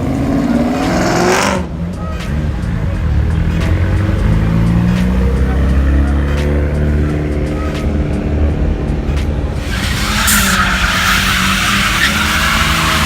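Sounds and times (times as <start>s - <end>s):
car engine running hard: 0.0s - 13.0s
tires squealing: 0.0s - 13.0s.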